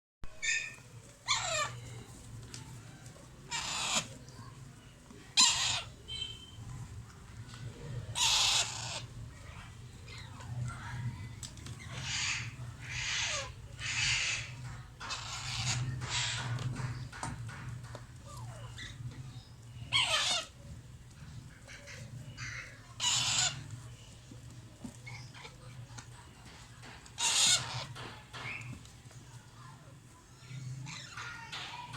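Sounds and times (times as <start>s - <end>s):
parakeet chicks begging calls: 0.3s - 2.1s, 2.9s - 24.2s, 25.0s - 28.8s, 30.4s - 31.9s.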